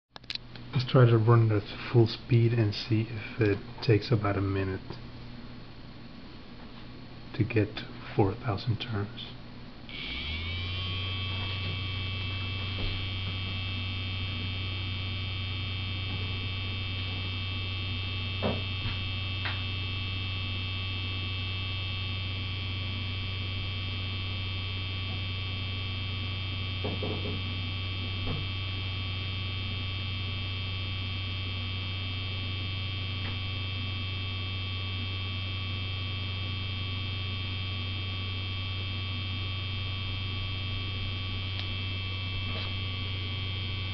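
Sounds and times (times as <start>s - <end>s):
motor spinning with hum and whine: 0.3s - 43.9s.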